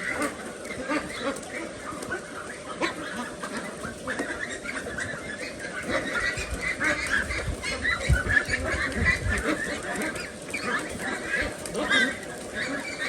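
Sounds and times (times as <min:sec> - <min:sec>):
ducks calling: 0:00.0 - 0:13.0.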